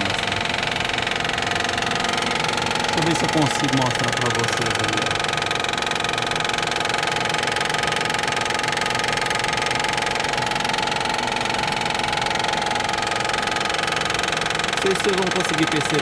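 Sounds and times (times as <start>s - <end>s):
car engine running: 0.0s - 16.0s
rapid knocking of belt tensioner: 0.0s - 16.0s.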